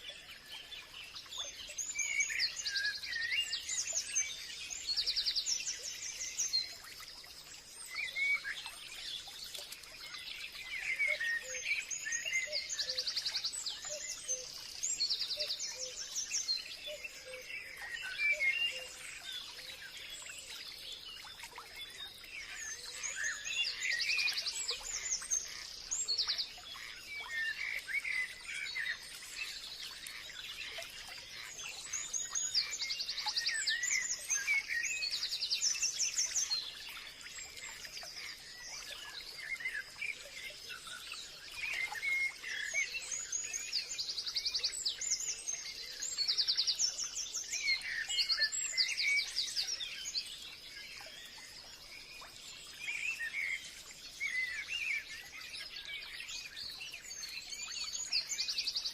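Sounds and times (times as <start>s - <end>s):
forest birds chirping: 0.0s - 58.9s.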